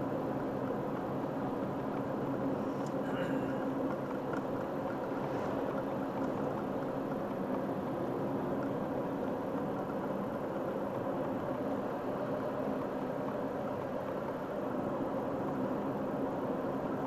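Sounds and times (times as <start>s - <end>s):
car engine hum from inside: 0.0s - 17.0s.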